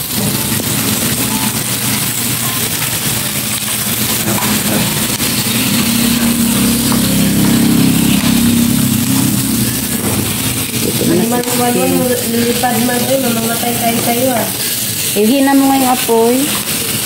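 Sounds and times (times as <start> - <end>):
low engine-like drone: 0.0 - 14.8
pork sizzling on a grill: 0.0 - 17.0.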